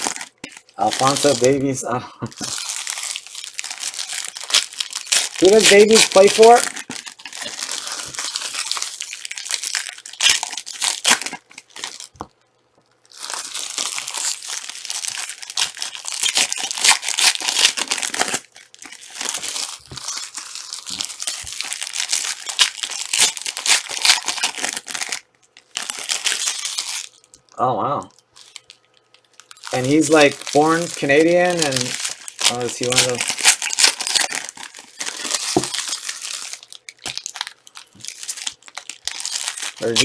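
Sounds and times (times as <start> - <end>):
card packs being torn open: 0.0 - 12.3, 13.1 - 27.4, 28.3 - 40.0
wrappers crinkling: 0.0 - 40.0.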